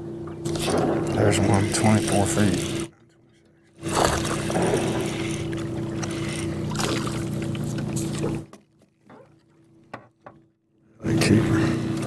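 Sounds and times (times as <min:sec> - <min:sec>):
electric trolling motor humming: 0:00.0 - 0:10.1, 0:10.9 - 0:12.0.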